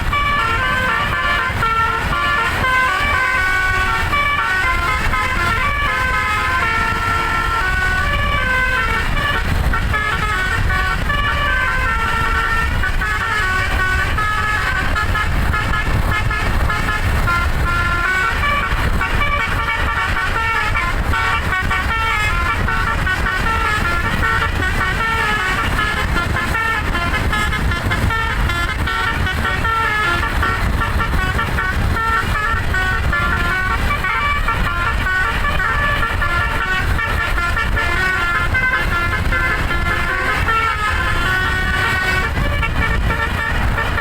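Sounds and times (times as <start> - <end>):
musical air horn melody: 0.0 - 44.0.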